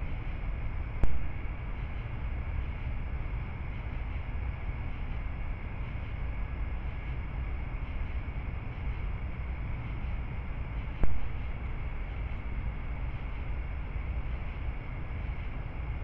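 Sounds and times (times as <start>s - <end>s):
microphone rumble and hiss: 0.0s - 16.0s.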